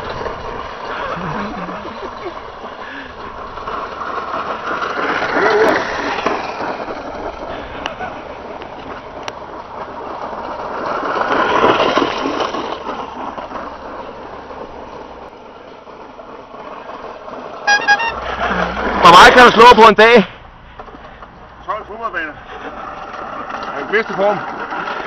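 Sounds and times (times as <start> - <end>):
reel mower whirring through grass: 0.0 - 20.2, 21.1 - 25.0.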